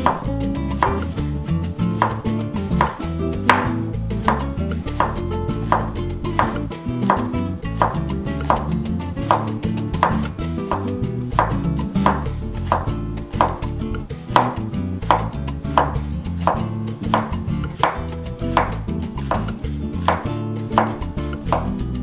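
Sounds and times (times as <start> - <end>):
knife knocking on wooden board: 0.0 - 1.1, 2.0 - 21.8.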